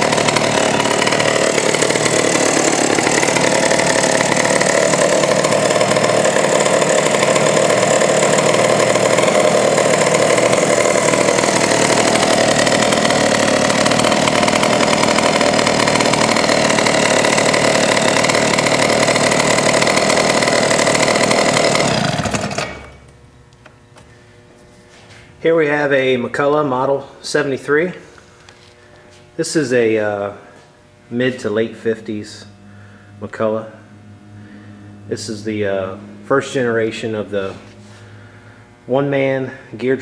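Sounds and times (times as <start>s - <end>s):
chainsaw engine running: 0.0s - 24.7s, 25.5s - 40.0s.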